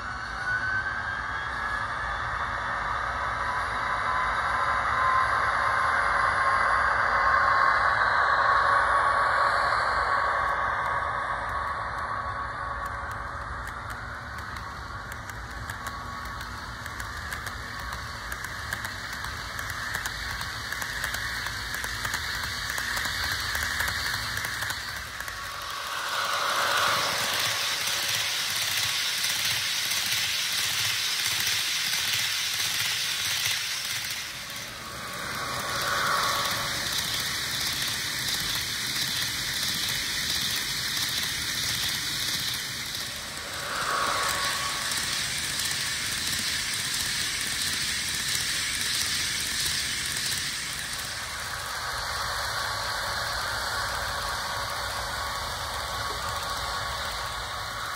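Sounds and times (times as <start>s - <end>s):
model train rattling on rails: 3.2s - 57.9s.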